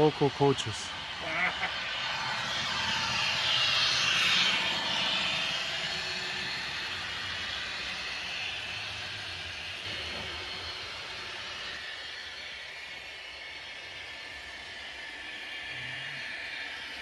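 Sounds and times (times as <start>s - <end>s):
model train wheels rattling on track: 0.0s - 1.4s, 2.0s - 17.0s.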